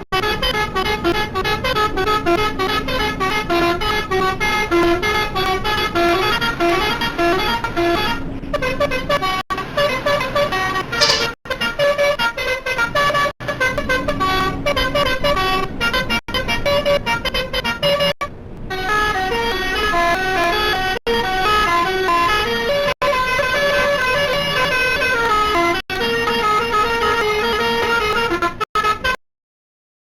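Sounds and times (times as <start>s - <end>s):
multi-tone bus horn melody: 0.0s - 29.2s.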